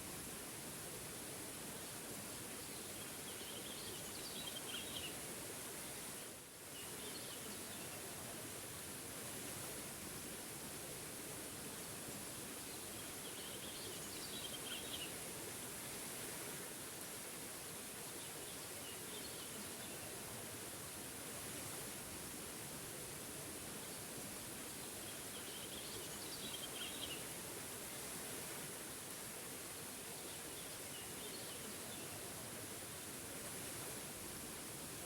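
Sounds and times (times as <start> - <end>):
small waterfall rushing: 0.0 - 35.0.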